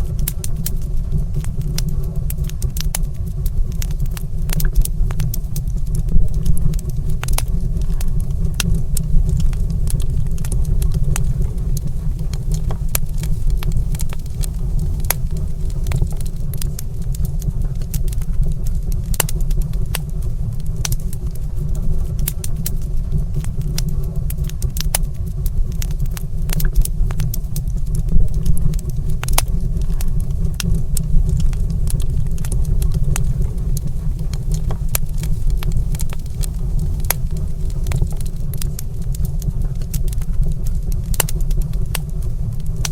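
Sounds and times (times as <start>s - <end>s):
fire low rumble: 0.0s - 42.9s
wood fire crackling and popping: 0.0s - 42.9s.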